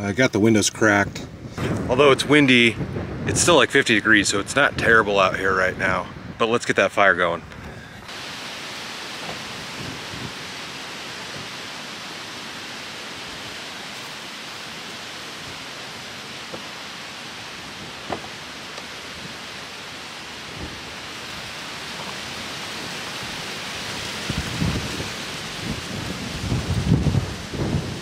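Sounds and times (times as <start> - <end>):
wind blowing across microphone: 0.0 - 28.0.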